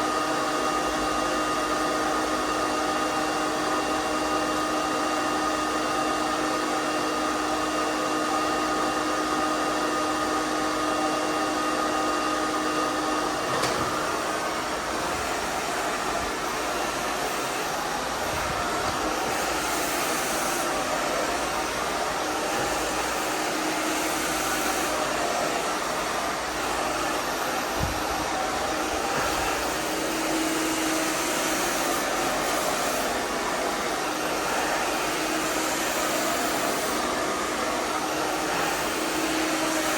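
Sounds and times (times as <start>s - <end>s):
hairdryer airflow: 0.0s - 39.9s
hairdryer motor whine: 0.0s - 39.9s.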